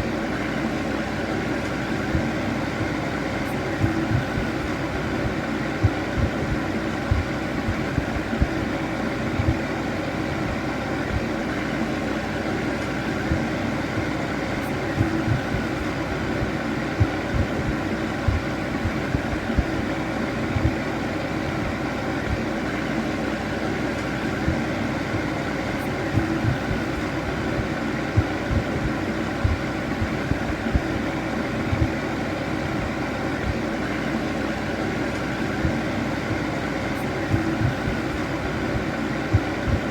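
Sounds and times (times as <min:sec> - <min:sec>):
fan heater whirring: 0:00.0 - 0:39.9.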